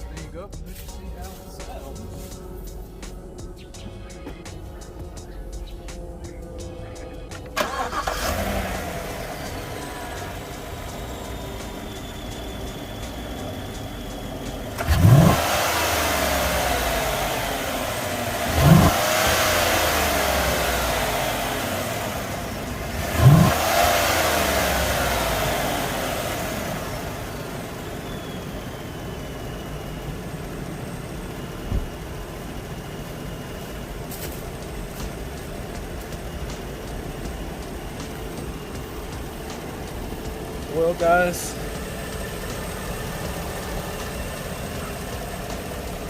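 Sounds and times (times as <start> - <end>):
truck engine idling and revving: 0.0 - 46.0.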